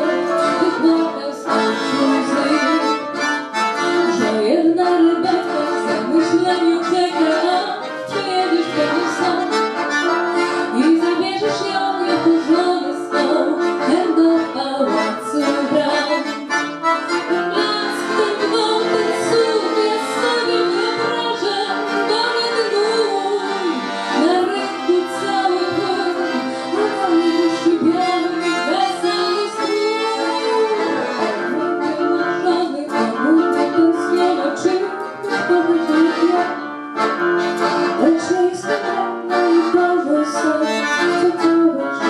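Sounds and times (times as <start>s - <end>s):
woman singing into a microphone: 0.0s - 3.1s, 4.0s - 9.8s, 10.4s - 16.6s, 17.2s - 36.8s, 37.9s - 42.0s
piano accordion: 0.0s - 42.0s.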